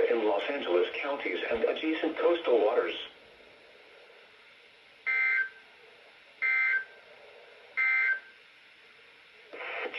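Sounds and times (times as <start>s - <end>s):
radio hiss: 0.0s - 9.9s.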